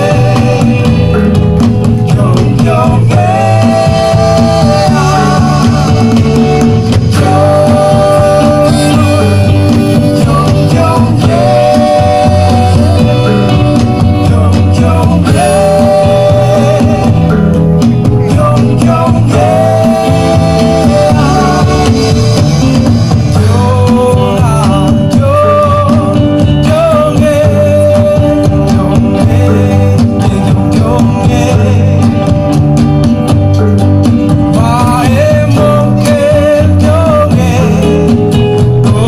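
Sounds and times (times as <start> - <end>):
person singing long notes: 0.0 - 32.5
bass line: 0.0 - 39.0
guitar: 0.0 - 39.0.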